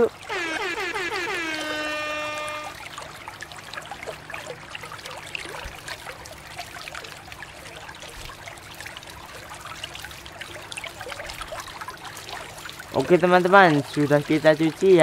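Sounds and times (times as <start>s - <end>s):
running water splashing into basin: 0.0s - 15.0s.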